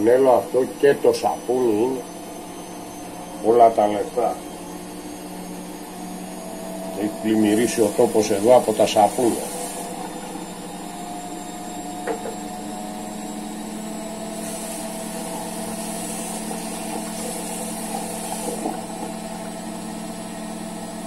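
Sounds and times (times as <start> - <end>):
small motor humming: 0.0 - 21.0.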